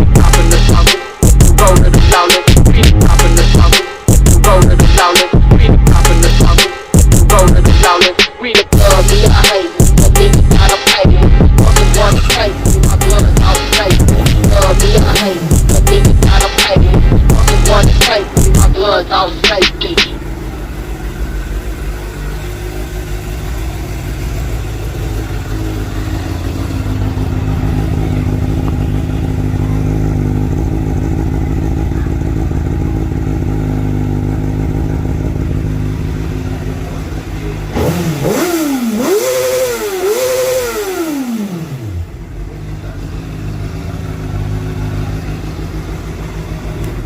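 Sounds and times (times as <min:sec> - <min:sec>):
motorcycle engine idling and revving: 0:00.0 - 0:47.0.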